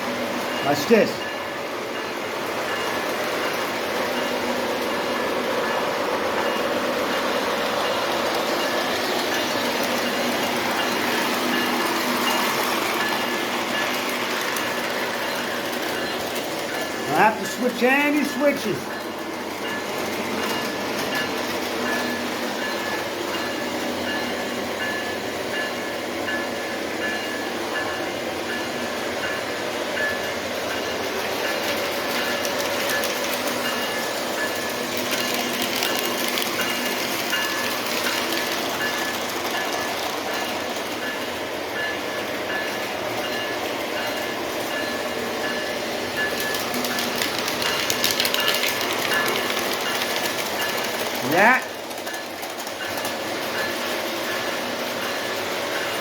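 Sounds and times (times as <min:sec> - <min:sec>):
model train running on track: 0:00.0 - 0:56.0.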